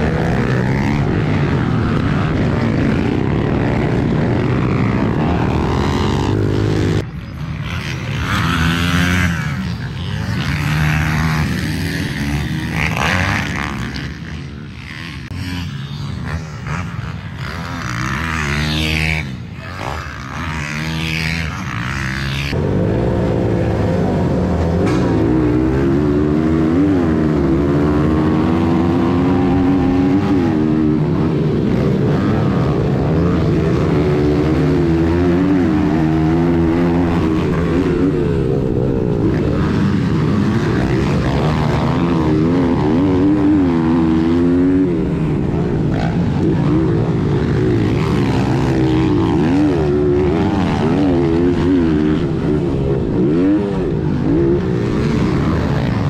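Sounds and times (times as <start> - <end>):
other pit bikes running: 0.0 - 56.0
pit bike engine revving: 0.0 - 56.0.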